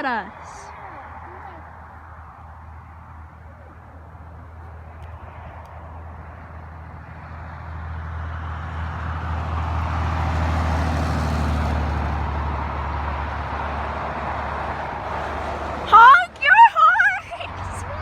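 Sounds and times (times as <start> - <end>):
vehicle passing: 0.0 - 18.0.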